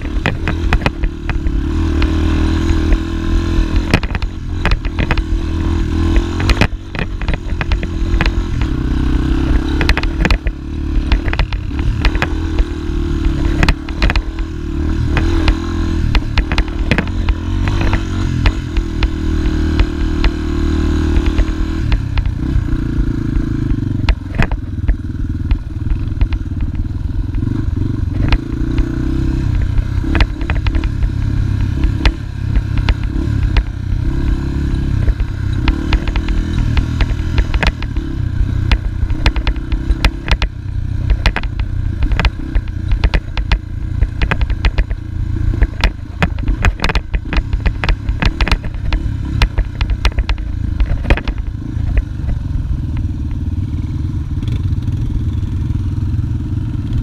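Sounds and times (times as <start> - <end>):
bike knocks and rattles: 0.0 - 53.7
dirt bike engine running: 0.0 - 57.0.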